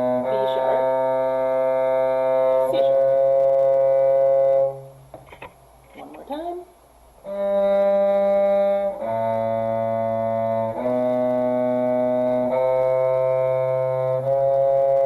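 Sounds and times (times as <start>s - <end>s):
violin bowing long notes: 0.0s - 4.9s, 7.3s - 15.0s
cello bowing long notes: 0.0s - 5.1s, 7.2s - 15.0s.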